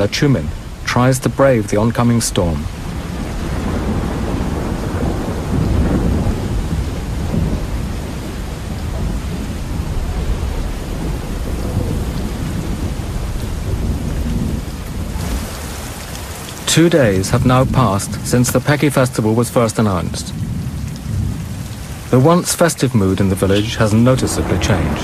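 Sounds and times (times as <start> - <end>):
deep thunder rumbling: 0.0 - 22.5, 23.1 - 25.0
rain hiss: 0.0 - 25.0.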